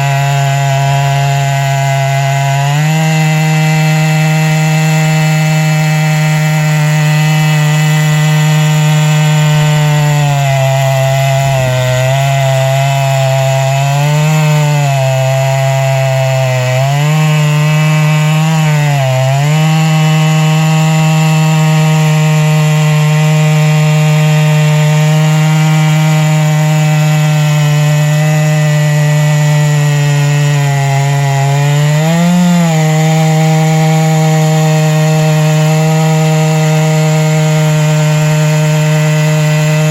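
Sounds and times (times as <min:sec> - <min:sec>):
chainsaw cutting log at full throttle: 0:00.0 - 0:39.9.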